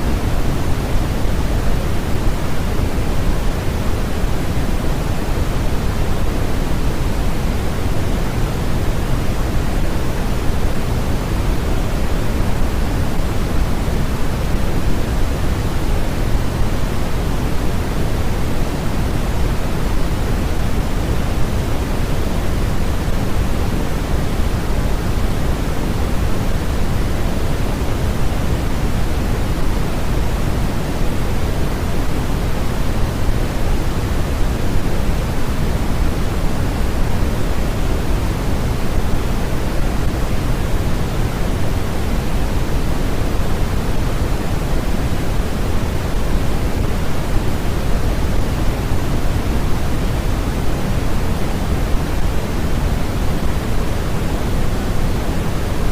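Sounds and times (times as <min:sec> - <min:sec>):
steady pink noise hiss: 0:00.0 - 0:55.9.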